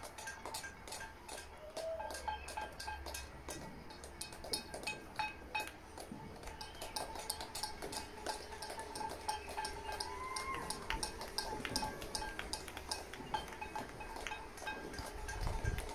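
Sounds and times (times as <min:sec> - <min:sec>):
people clapping: 0:00.0 - 0:15.9.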